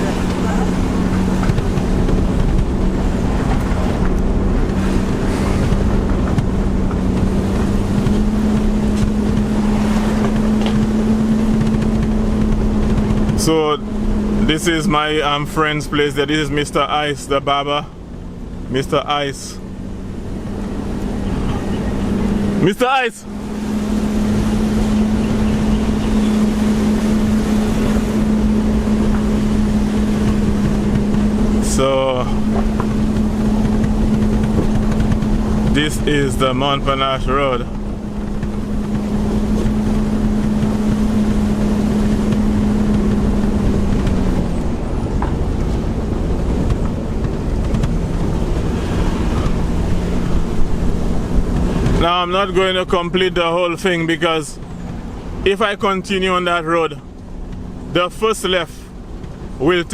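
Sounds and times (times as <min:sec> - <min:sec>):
car engine hum: 0:00.0 - 0:59.9
tyre and road rumble: 0:00.0 - 0:59.9.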